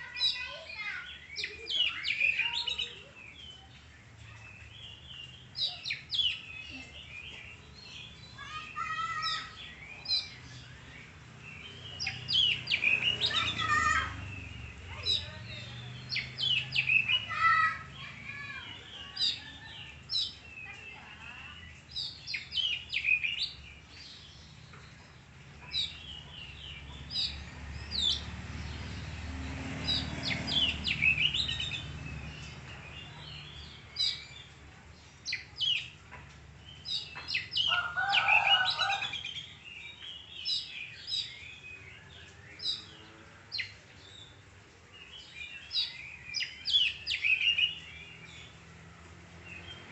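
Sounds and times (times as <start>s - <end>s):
bird singing: 0.0s - 49.9s.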